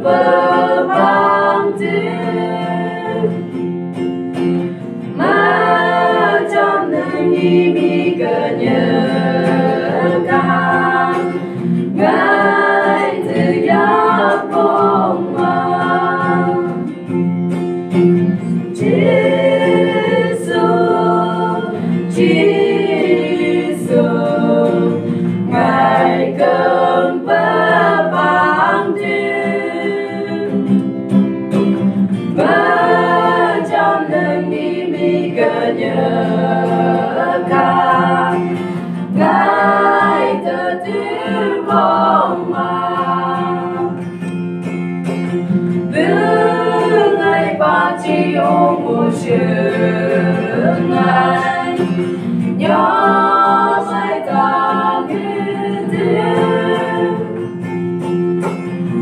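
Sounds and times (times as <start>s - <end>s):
group singing gospel song: 0.0s - 31.0s, 32.1s - 58.1s, 58.8s - 59.0s
acoustic guitar: 0.0s - 59.0s.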